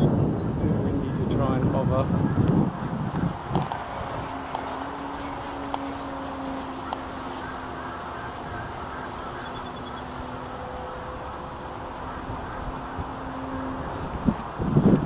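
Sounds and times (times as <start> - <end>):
wind on microphone: 0.0 - 15.0
model plane motor humming: 2.1 - 15.0.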